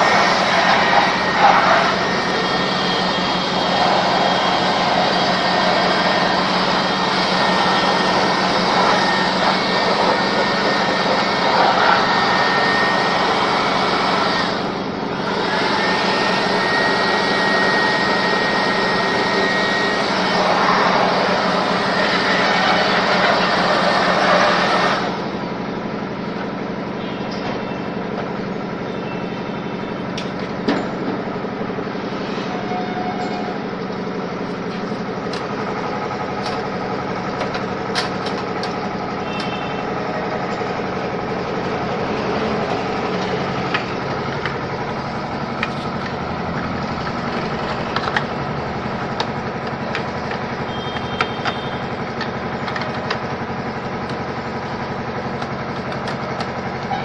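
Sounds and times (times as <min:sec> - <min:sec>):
small electric motor running: 0:00.0 - 0:25.3, 0:35.0 - 0:57.0.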